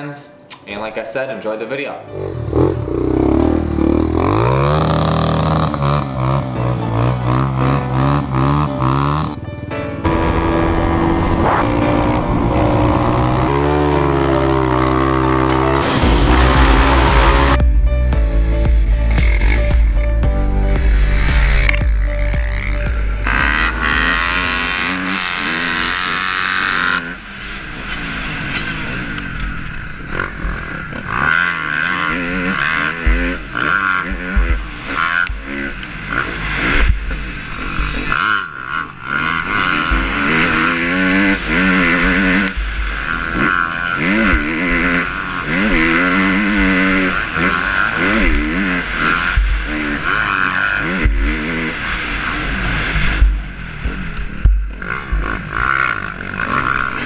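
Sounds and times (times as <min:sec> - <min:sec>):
dirt bike engine revving: 0:02.1 - 0:57.0.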